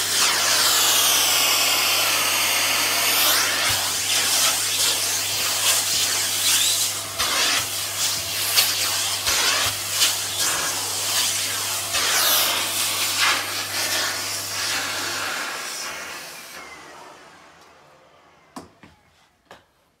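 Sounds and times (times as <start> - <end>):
vacuum cleaner running: 0.0 - 19.3.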